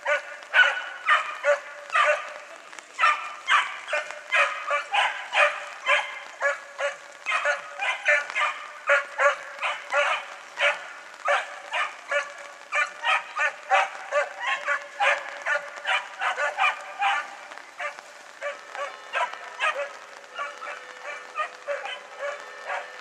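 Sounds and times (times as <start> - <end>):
hounds yelping: 0.0 - 23.0.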